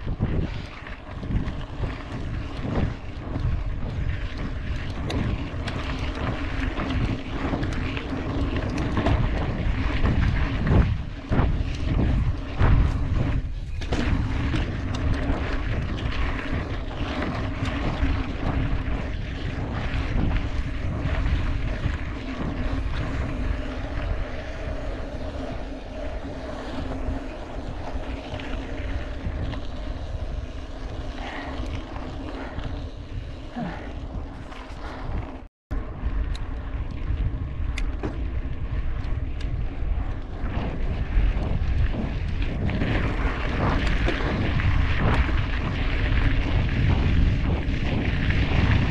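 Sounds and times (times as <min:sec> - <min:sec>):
bike tyres rumbling on dirt: 0:00.0 - 0:48.9
wind rushing over microphone: 0:00.0 - 0:48.9.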